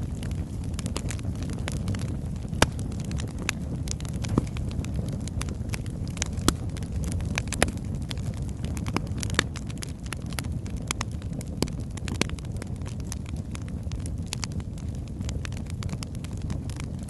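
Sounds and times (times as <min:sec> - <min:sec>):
crackles and pops from logs: 0:00.0 - 0:17.0
rumble of flames: 0:00.0 - 0:17.0.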